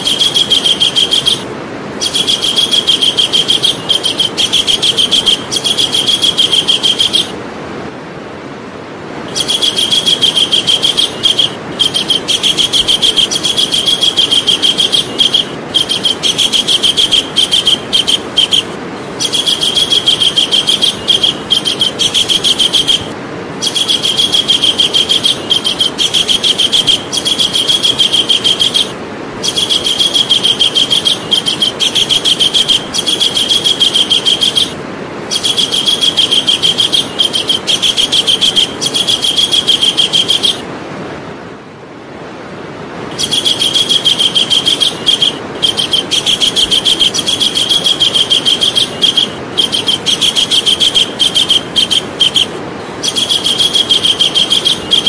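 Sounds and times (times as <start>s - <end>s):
kingfisher calling: 0.0s - 7.4s, 9.3s - 40.7s, 43.1s - 55.0s.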